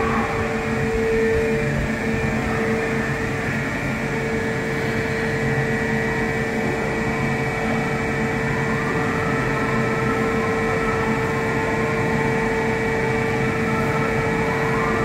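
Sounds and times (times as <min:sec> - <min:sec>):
train mechanical hum: 0:00.0 - 0:15.0.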